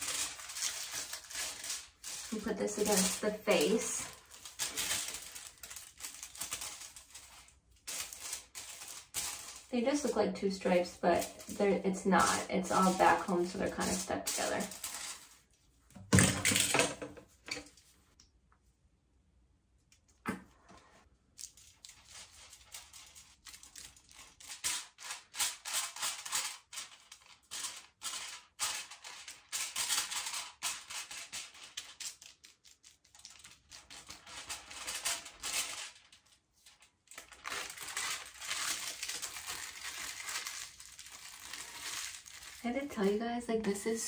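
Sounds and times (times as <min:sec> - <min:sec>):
aluminium foil crinkling: 0:00.0 - 0:15.7, 0:21.3 - 0:44.0.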